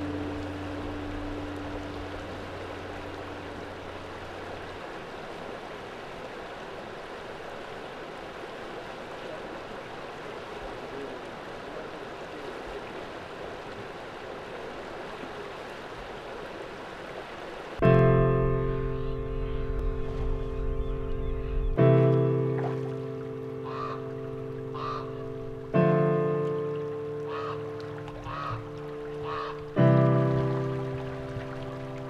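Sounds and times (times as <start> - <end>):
stream flowing: 0.0 - 32.0.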